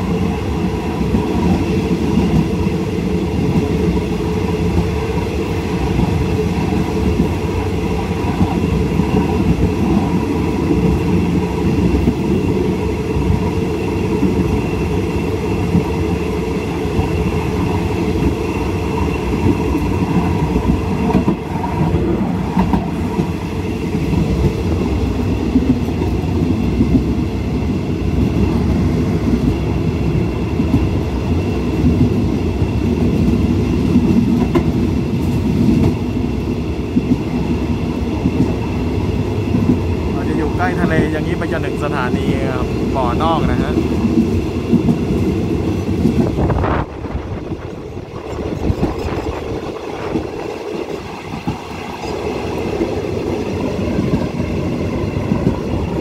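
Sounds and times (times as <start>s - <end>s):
clickety-clack of rails: 0.0s - 56.0s
train wheels rumbling on rails: 0.0s - 56.0s.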